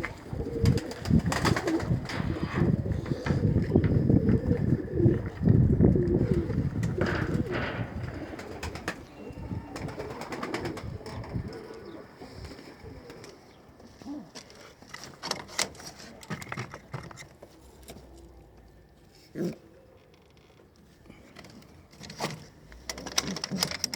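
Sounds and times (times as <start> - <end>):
pigeons cooing: 0.0 - 14.8, 17.5 - 20.1, 20.9 - 23.9.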